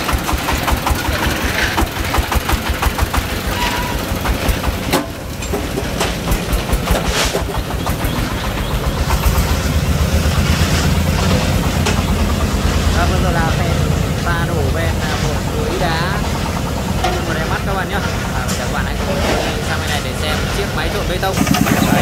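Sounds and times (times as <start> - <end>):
diesel engine chugging: 0.0 - 22.0.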